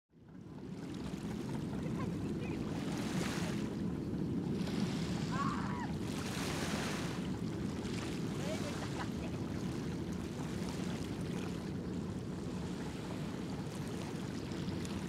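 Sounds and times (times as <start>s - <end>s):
small waves washing ashore: 0.3s - 15.0s.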